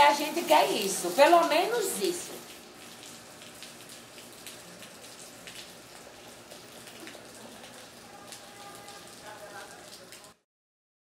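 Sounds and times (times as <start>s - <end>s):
faint rain hiss: 0.0s - 10.4s
raindrops hitting hard surfaces: 0.0s - 10.4s.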